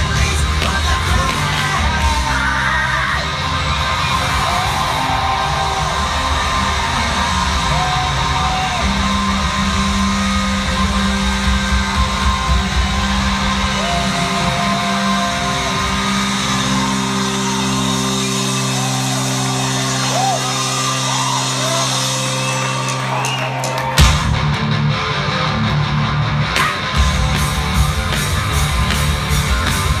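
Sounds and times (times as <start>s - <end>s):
live rock band playing: 0.0s - 30.0s
crowd shouting: 0.8s - 30.0s.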